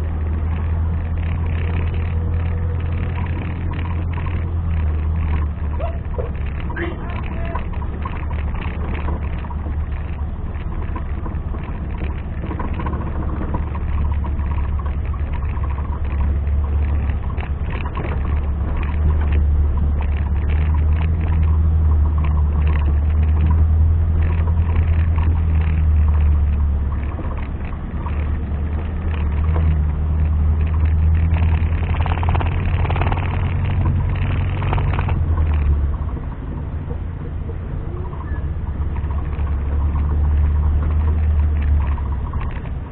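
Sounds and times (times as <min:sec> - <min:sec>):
off-road engine running under load: 0:00.0 - 0:42.9.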